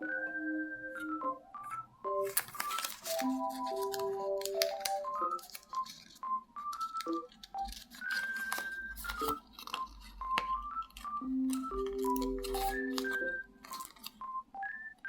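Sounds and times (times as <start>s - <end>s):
light background music: 0.0s - 15.0s
paper folding and crackling: 2.2s - 14.3s.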